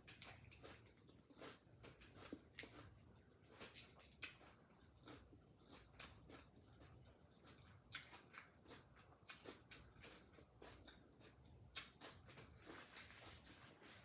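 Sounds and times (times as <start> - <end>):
chewing and mouth smacks: 0.0 - 14.0.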